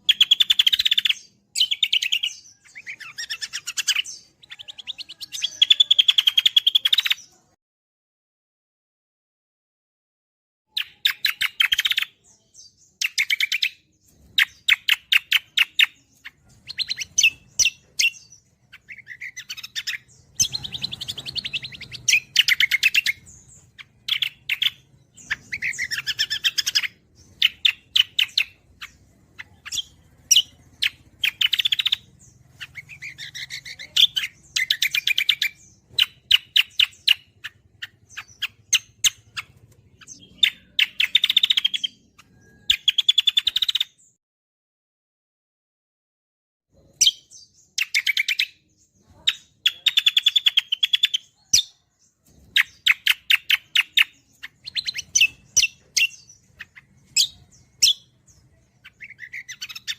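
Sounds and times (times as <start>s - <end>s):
songbird chirping: 0.0s - 7.6s, 10.7s - 44.2s, 46.7s - 59.9s.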